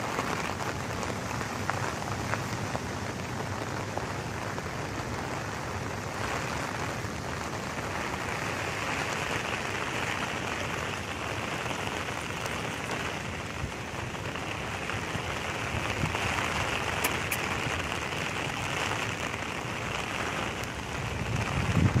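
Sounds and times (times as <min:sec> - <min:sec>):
rain on stone paving: 0:00.0 - 0:22.0.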